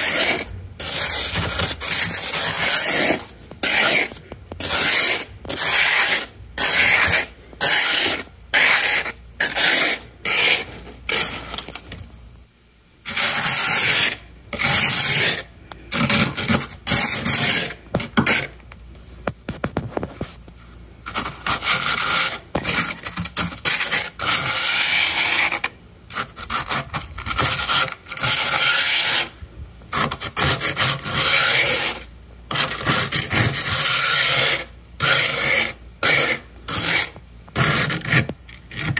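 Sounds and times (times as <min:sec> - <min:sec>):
plastic scraper scraping frost: 0:00.0 - 0:12.0, 0:13.0 - 0:18.6, 0:21.0 - 0:38.9.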